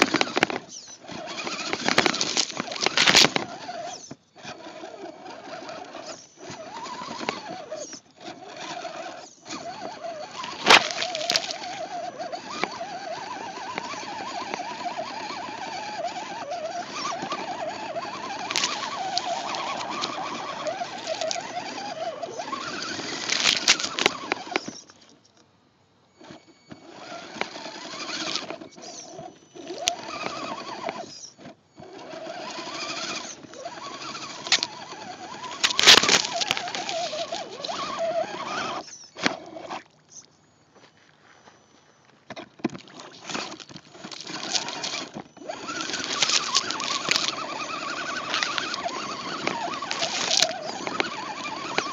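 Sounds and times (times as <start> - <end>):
toy car electric motor whining: 0.0 - 25.4, 26.1 - 51.9.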